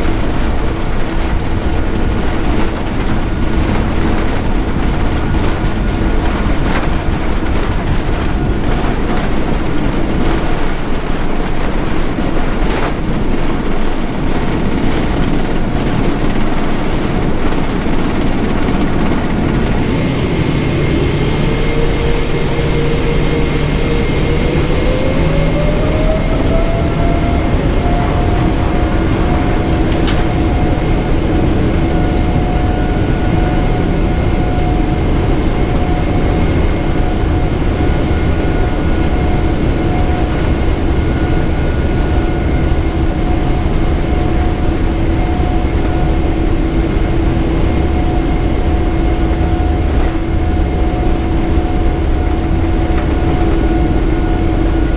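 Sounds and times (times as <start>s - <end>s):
jet engines roaring in cabin: 0.0s - 54.9s.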